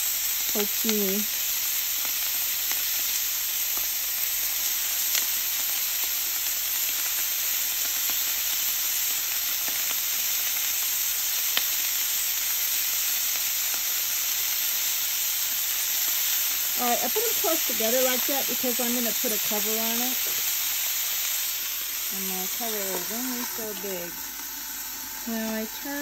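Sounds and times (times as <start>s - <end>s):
bacon sizzling on griddle: 0.0s - 26.0s
bacon fat popping: 1.7s - 26.0s.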